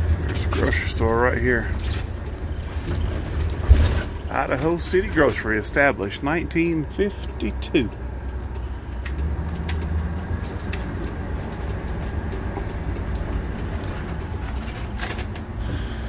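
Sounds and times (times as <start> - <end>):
light clicks and rattles: 0.0 - 15.6
motorhome engine running: 0.0 - 16.0.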